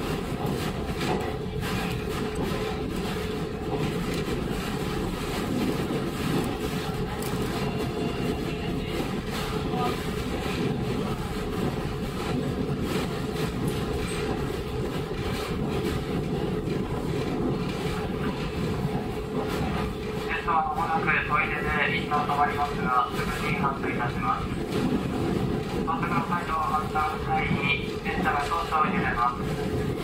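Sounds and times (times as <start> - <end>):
constant whine: 0.0 - 30.0
railcar engine and wheels rumbling: 0.0 - 30.0.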